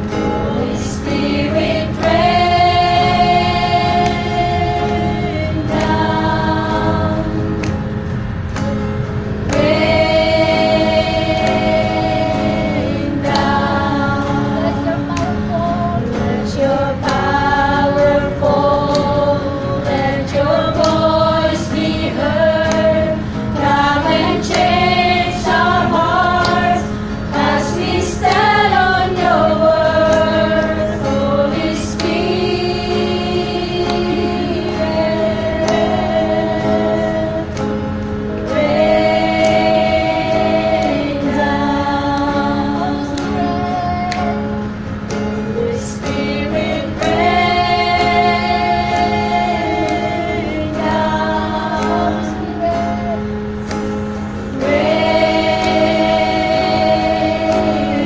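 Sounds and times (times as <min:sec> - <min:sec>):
women singing worship song: 0:00.0 - 0:07.8, 0:09.4 - 0:58.0
acoustic guitar: 0:00.0 - 0:58.0.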